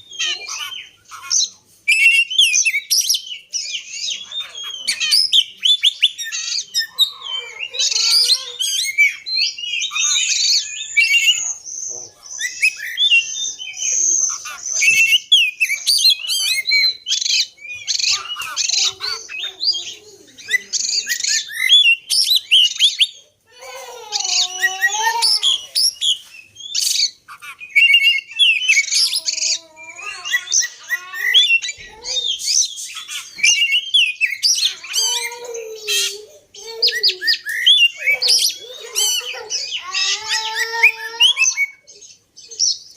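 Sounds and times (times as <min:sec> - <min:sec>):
songbird singing varied song: 0:00.0 - 0:42.9.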